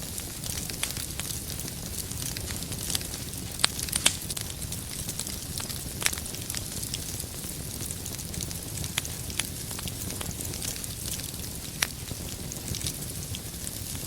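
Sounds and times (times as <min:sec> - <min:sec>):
sharp pops from fire: 0:00.0 - 0:14.0
wood fire crackling: 0:00.0 - 0:14.0.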